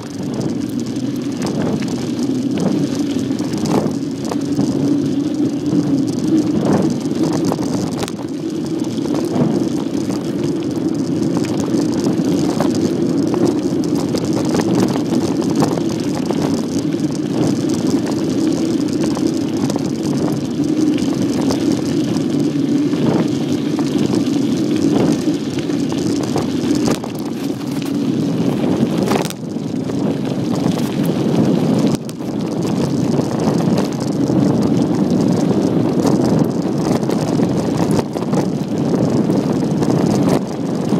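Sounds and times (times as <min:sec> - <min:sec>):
bicycle tyres rolling on dirt: 0:00.0 - 0:40.9
bike rattling and knocking: 0:00.0 - 0:40.9.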